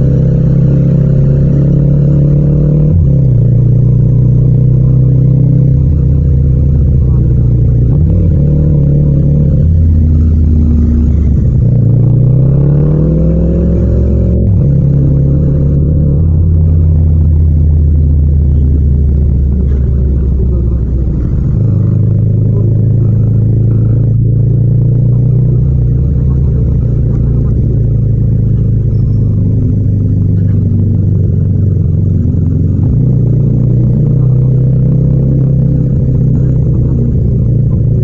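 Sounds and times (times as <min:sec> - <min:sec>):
motorcycle engine droning: 0:00.0 - 0:38.0.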